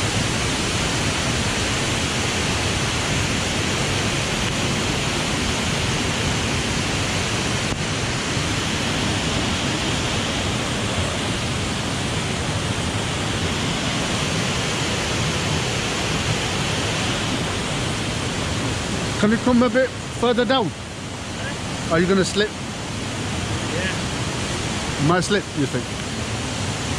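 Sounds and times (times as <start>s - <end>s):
rush of falling water: 0.0s - 26.9s.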